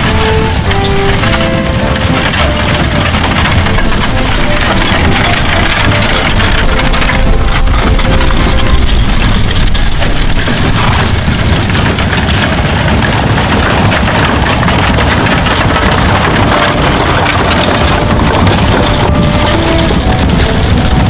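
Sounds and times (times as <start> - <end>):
wagon wheels rumbling: 0.0 - 21.0.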